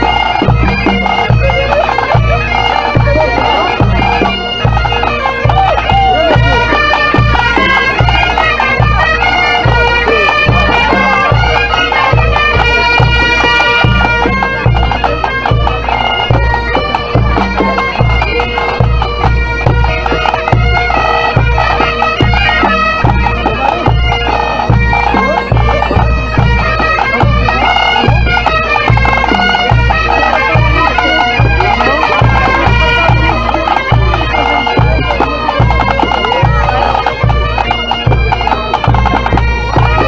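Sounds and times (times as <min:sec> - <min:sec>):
bagpipes playing fast melody: 0:00.0 - 0:40.0
bass drum beating: 0:00.0 - 0:40.0.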